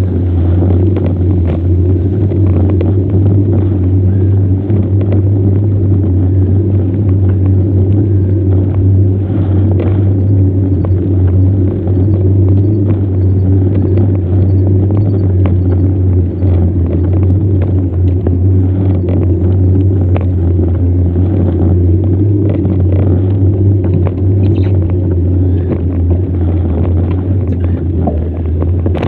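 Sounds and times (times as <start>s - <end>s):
wind noise on microphone: 0.0s - 29.0s.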